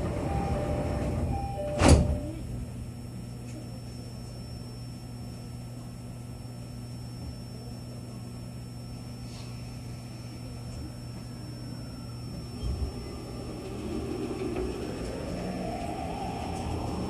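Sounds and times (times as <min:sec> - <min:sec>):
train electrical hum: 0:00.0 - 0:17.0.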